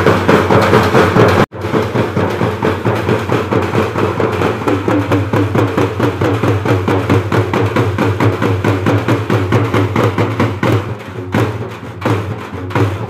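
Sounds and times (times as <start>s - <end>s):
frame drums beaten fast: 0.0s - 13.0s.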